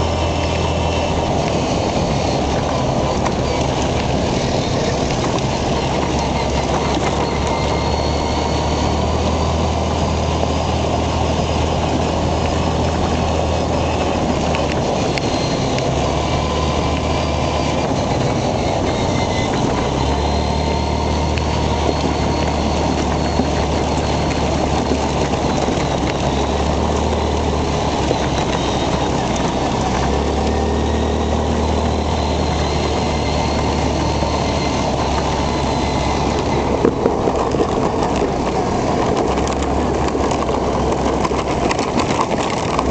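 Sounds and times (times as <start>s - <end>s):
quad bike engine droning: 0.0s - 42.9s
rattle from riding on gravel: 0.0s - 42.9s.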